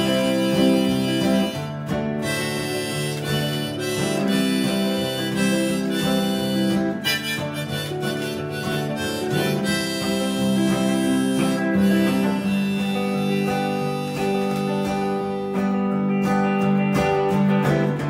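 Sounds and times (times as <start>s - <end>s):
acoustic guitar chords: 0.0s - 18.0s
electric guitar: 0.0s - 18.0s.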